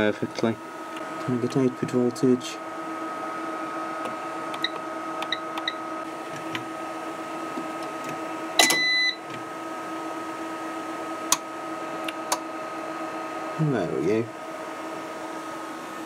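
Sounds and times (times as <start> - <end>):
steady electrical whine: 0.0 - 16.0.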